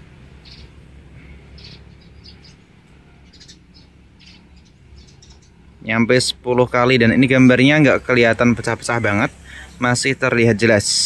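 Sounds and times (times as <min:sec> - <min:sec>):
birds chirping: 0:00.0 - 0:11.0
low steady rumble: 0:00.0 - 0:11.0.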